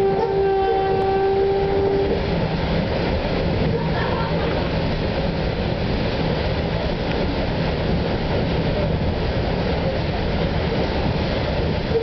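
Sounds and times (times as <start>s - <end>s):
railcar rumbling on rails: 0.0s - 12.0s.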